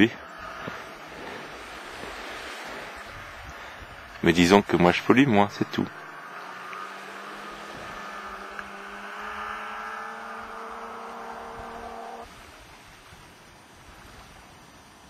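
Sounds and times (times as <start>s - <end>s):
snowmobile engine running: 0.0s - 12.3s.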